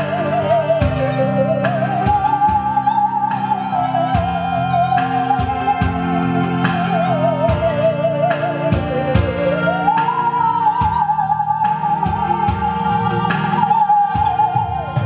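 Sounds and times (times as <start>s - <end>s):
backing track with beat: 0.0s - 15.0s
musical saw melody: 0.0s - 15.0s.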